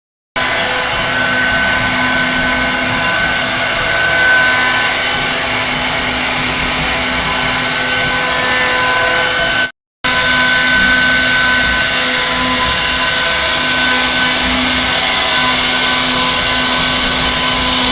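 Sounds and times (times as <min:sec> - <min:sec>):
router spindle whining: 0:00.4 - 0:17.9.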